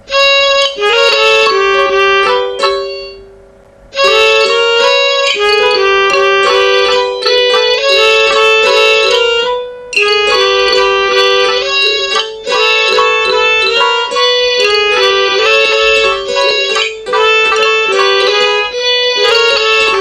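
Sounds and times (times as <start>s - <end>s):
computer-generated midi music: 0.0s - 20.0s.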